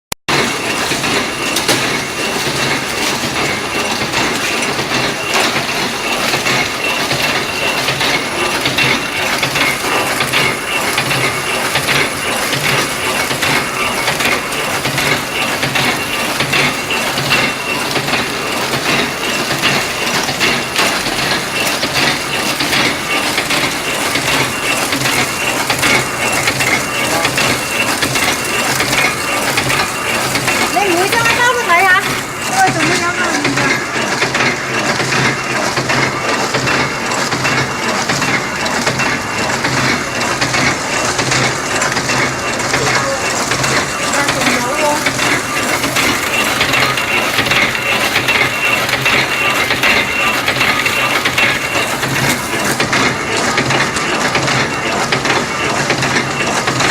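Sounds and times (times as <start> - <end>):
packaging machine clattering: 0.3 - 56.9
steady machine hum: 0.3 - 56.9.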